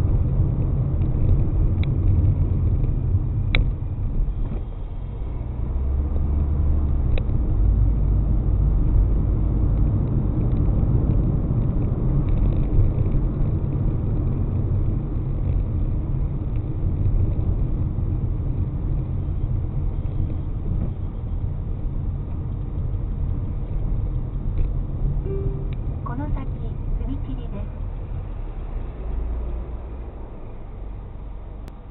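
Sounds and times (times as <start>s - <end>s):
car engine and tyres rumbling: 0.0s - 31.9s.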